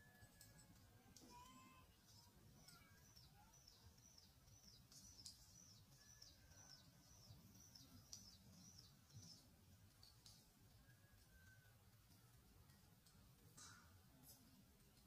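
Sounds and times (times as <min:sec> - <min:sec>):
low outdoor hum: 0:00.0 - 0:15.0.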